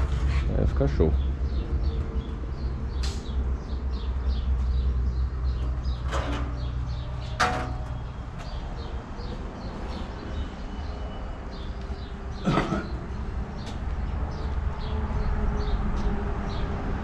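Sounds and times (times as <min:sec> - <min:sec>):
small birds chirping: 0:00.0 - 0:16.8.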